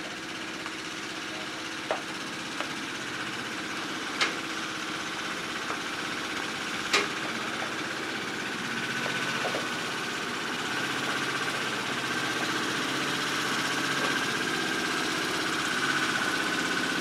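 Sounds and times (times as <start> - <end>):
lorry diesel engine running: 0.0 - 17.0.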